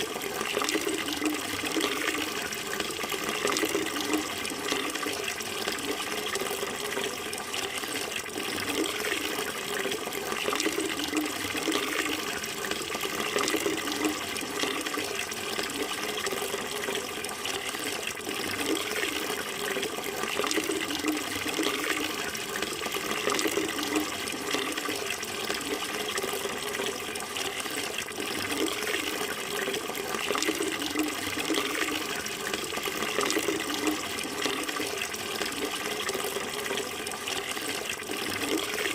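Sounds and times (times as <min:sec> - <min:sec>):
water running: 0:00.0 - 0:38.9.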